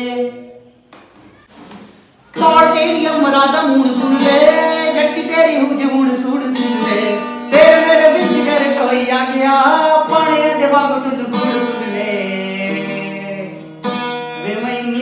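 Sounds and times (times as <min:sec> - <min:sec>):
man singing: 0:00.0 - 0:00.6, 0:02.3 - 0:15.0
acoustic guitar strumming: 0:00.0 - 0:15.0.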